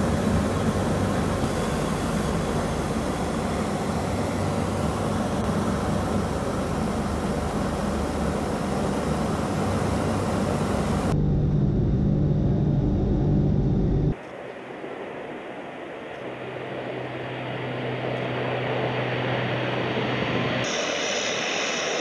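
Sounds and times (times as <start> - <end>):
aircraft engine and airflow drone: 0.0 - 22.0
turboprop propeller drone: 0.0 - 22.0.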